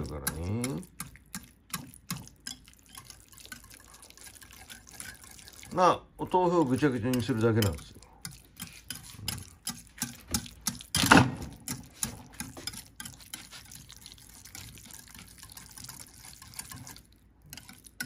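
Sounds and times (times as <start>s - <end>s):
whisk scraping against plate: 0.0s - 18.0s.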